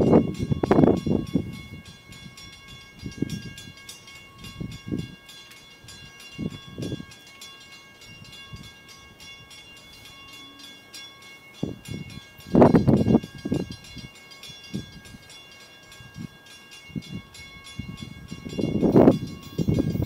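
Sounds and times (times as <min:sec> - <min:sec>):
high ringing tones: 0:00.0 - 0:20.0
low train rumbles: 0:00.0 - 0:20.0.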